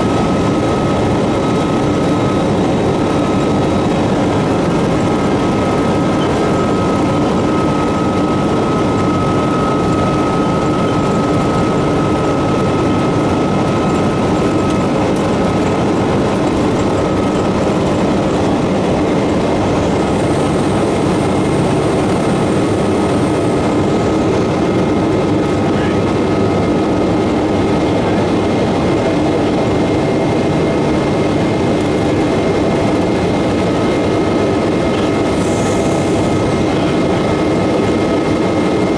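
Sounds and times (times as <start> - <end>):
jet engines roaring: 0.0 - 38.9
thin steady whine: 0.0 - 38.9.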